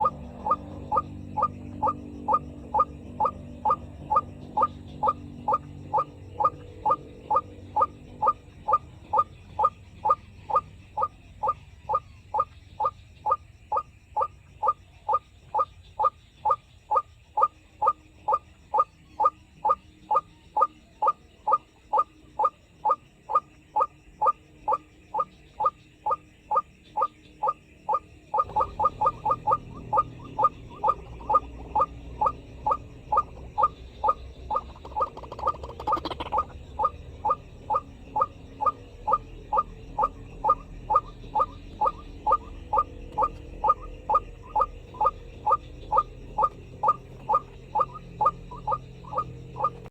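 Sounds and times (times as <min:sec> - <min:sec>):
bird croaking call: 0:00.0 - 0:49.9.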